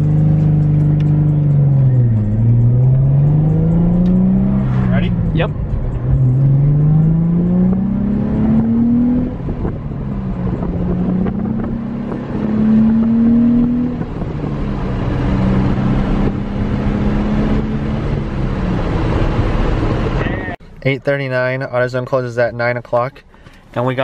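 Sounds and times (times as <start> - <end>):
car engine accelerating: 0.0 - 20.6.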